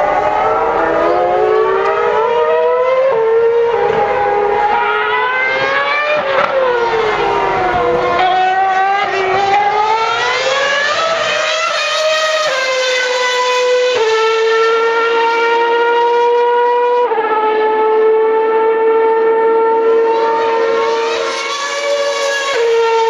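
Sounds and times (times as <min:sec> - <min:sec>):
racing car engines at high revs: 0:00.0 - 0:23.0
racing car passing: 0:00.0 - 0:23.0.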